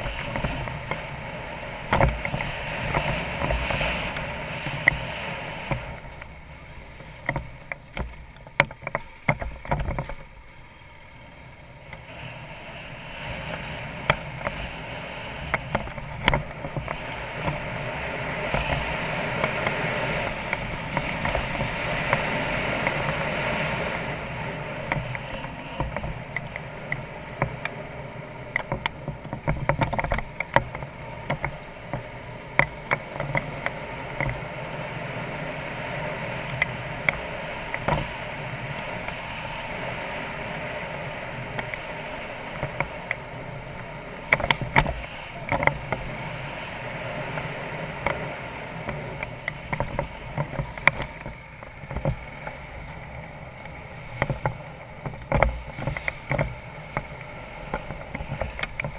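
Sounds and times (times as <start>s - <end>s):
wind rush over microphone: 0.0s - 8.1s, 12.0s - 58.9s.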